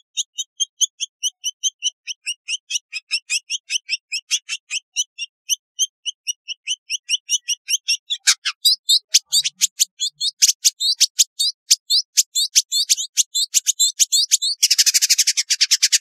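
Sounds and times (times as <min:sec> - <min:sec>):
bird singing high chirps: 0:00.0 - 0:16.0.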